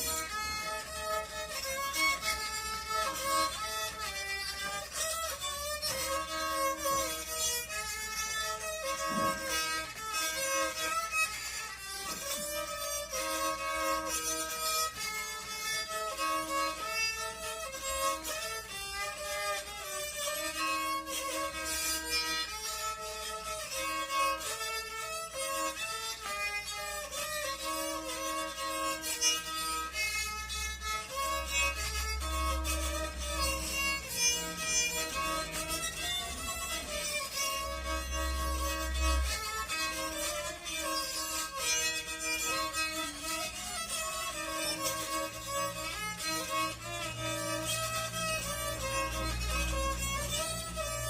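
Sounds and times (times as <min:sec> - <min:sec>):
bowed fiddle melody: 0:00.0 - 0:51.0.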